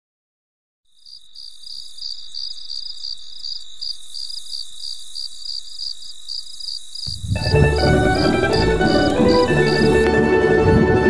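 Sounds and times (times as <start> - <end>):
insects chirping: 0.9 - 10.4.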